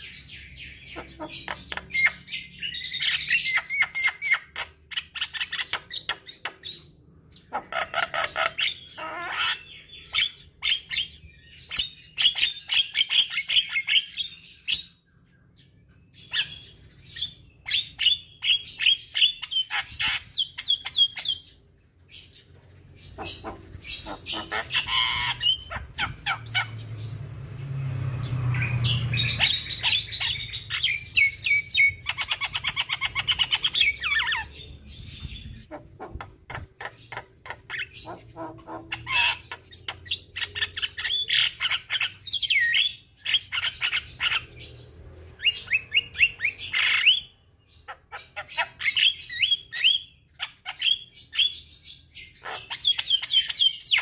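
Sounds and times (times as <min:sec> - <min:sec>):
bird singing chattering song: 0:00.0 - 0:54.0.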